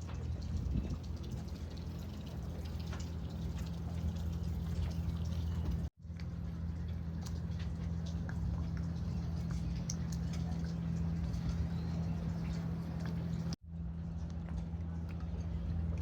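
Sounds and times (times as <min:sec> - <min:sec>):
water dripping and trickling: 0:00.0 - 0:13.6
steady low hum: 0:00.0 - 0:16.0.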